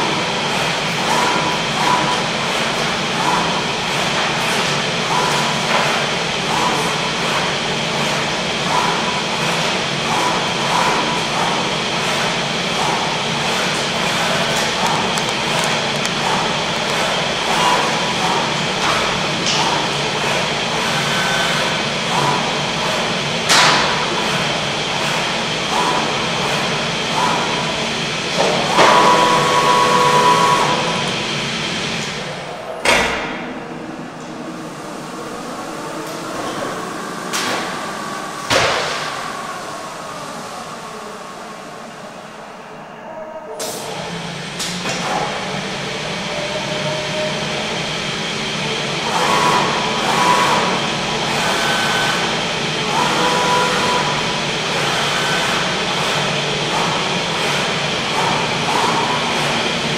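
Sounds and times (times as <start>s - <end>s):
machine hum: 0.0s - 59.9s
machine whine: 0.0s - 59.9s.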